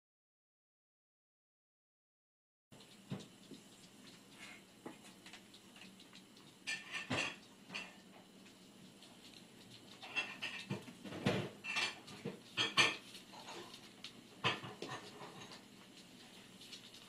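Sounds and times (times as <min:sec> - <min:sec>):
cats scuffling on wooden floor: 0:02.8 - 0:17.0.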